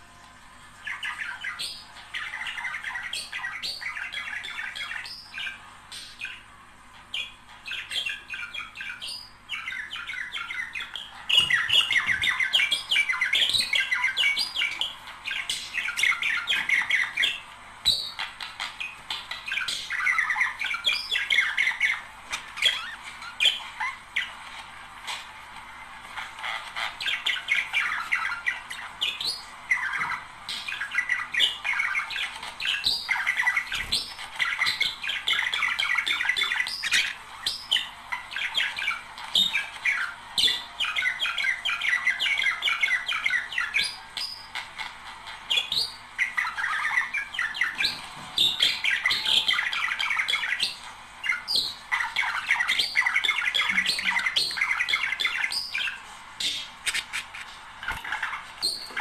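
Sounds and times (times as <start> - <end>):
budgerigars chattering and chirping: 0.8 - 59.0.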